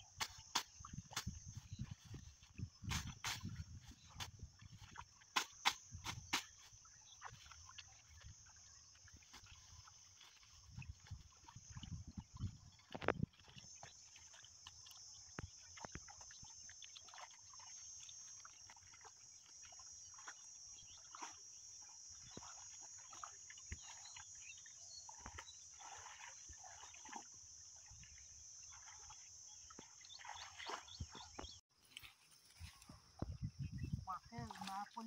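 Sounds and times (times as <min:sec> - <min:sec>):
mud splashing in water: 0:00.1 - 0:31.6, 0:34.1 - 0:35.0.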